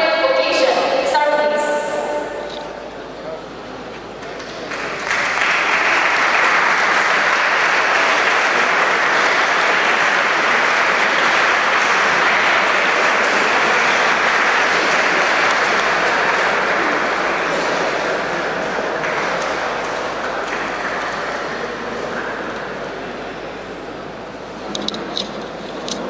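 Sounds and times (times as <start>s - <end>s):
audience applauding: 4.1s - 26.0s.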